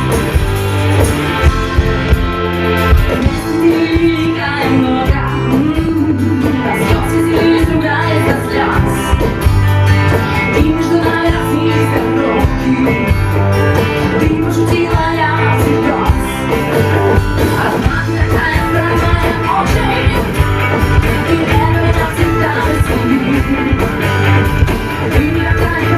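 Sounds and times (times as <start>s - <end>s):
rock band playing: 0.0s - 25.9s
person singing: 3.2s - 25.9s.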